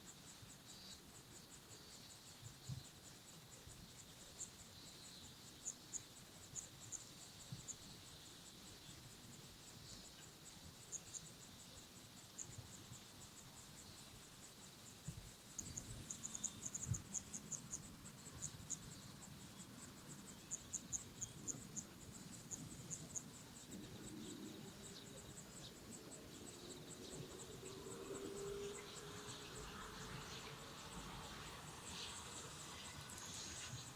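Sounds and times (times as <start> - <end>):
insect chirping: 0.0 - 33.9.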